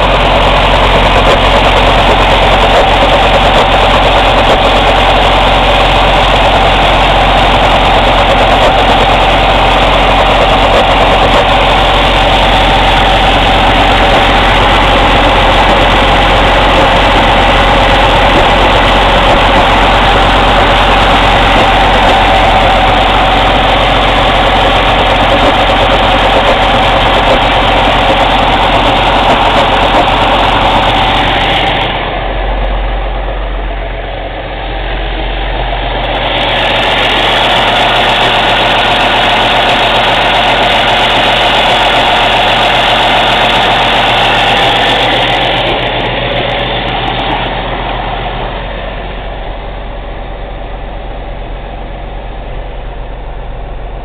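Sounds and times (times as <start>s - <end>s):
diesel engine running: 0.0s - 54.0s
turbo chuffing noise: 0.0s - 54.0s.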